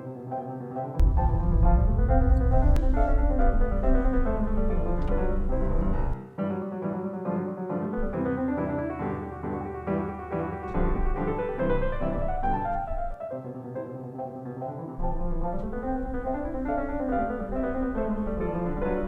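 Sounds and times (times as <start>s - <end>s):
classical piano music: 0.0s - 19.0s.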